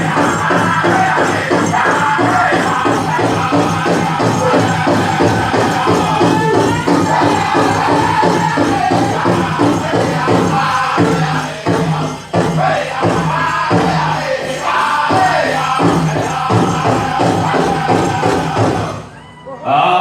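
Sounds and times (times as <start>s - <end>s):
large drum beating: 0.0s - 19.1s
voices singing high chorus: 0.0s - 20.0s.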